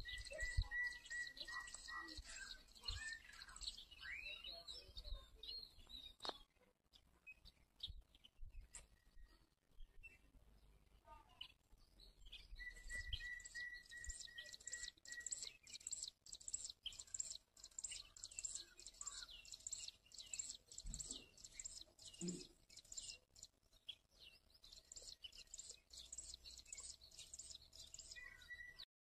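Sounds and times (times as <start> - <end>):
bird chirping: 0.0 - 28.9.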